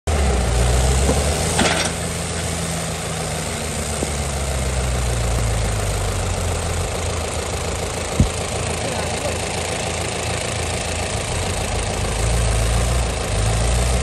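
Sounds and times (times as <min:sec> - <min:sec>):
diesel tractor engine running: 0:00.1 - 0:14.0.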